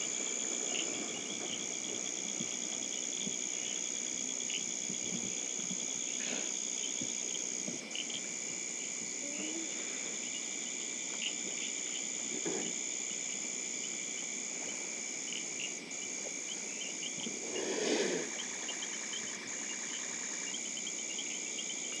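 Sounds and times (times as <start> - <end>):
cricket chirps: 0.0 - 22.0
high-pitched insect drone: 0.0 - 22.0.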